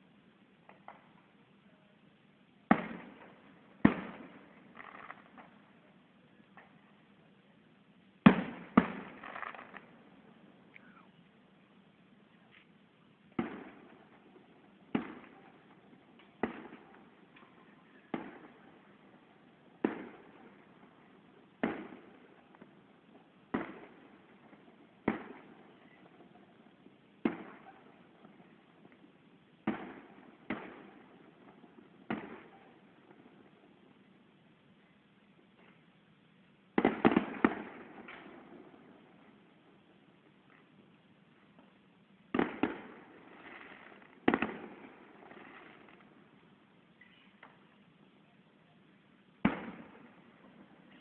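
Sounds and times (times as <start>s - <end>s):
distant fireworks bangs: 2.7s - 7.0s, 8.2s - 11.1s, 12.6s - 34.3s, 36.7s - 47.8s, 48.7s - 51.0s.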